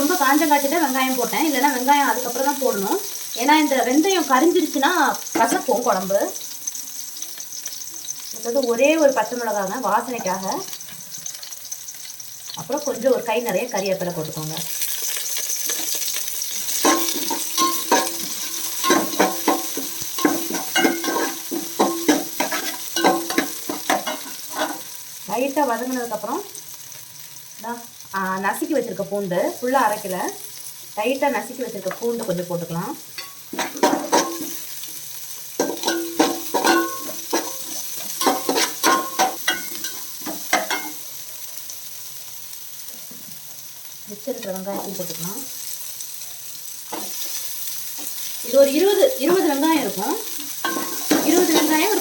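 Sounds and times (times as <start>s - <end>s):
onions sizzling in oil: 0.0s - 52.0s.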